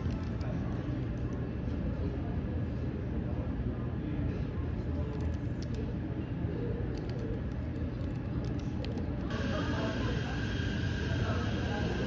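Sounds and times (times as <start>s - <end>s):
low cafe chatter: 0.0s - 12.0s.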